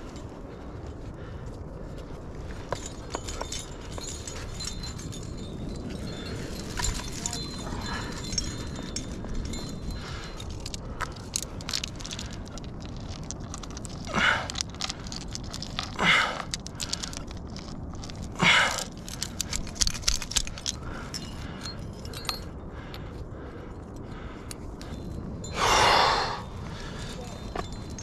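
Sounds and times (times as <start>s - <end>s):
carabiners jangling and clicking: 0.0s - 1.1s, 1.9s - 28.0s.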